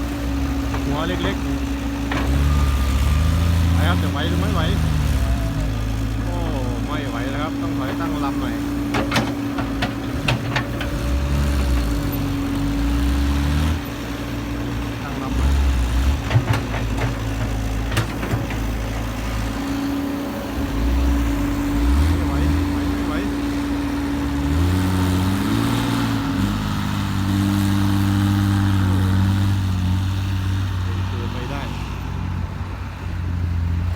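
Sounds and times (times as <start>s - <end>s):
excavator engine and hydraulics: 0.0s - 33.9s.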